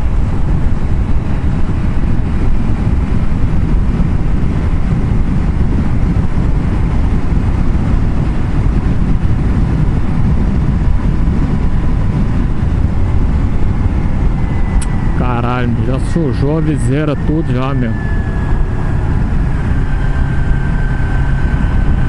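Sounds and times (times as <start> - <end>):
faint steady whine: 0.0 - 22.0
motorcycle road noise: 0.0 - 22.0
wind rush: 0.0 - 22.0.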